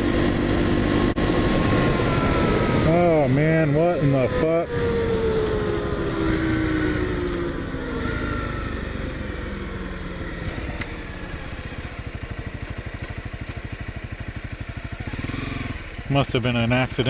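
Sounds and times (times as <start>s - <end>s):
motorcycle engine winding down: 0.0s - 17.0s.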